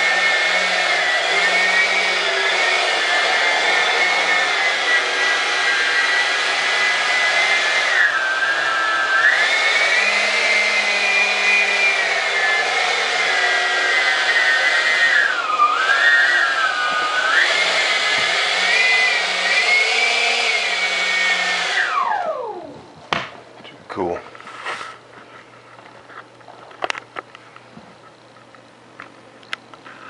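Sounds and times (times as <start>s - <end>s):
electric fan whining: 0.0s - 30.0s.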